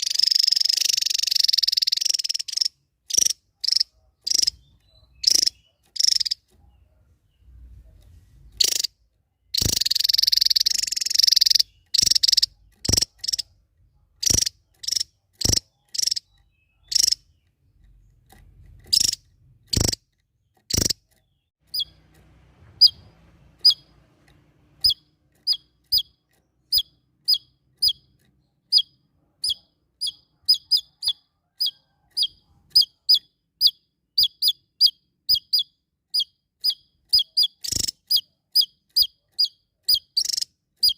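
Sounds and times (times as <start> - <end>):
songbird calling and chirping: 0.0 - 40.9.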